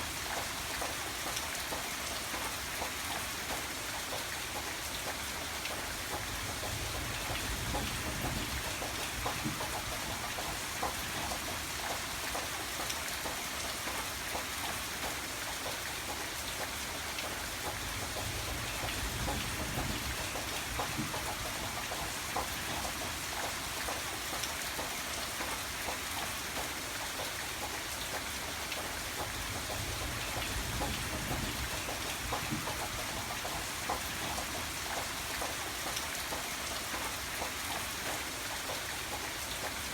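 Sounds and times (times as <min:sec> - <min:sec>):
rain drops hitting a surface: 0:00.0 - 0:39.9.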